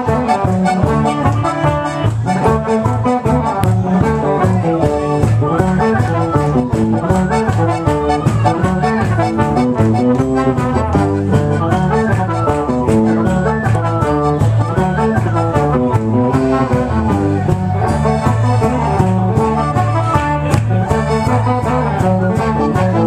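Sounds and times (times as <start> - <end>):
driving drumbeat: 0.0 - 23.0
fast stepping melody line: 0.0 - 23.0.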